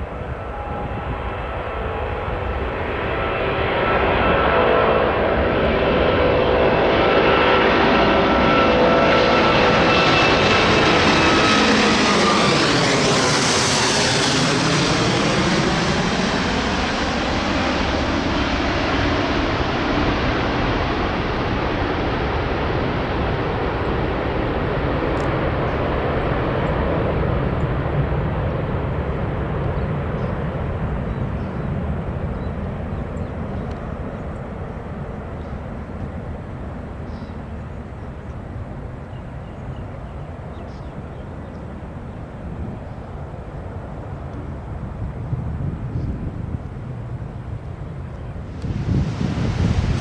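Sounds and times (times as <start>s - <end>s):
jet aircraft taking off: 0.0s - 50.0s.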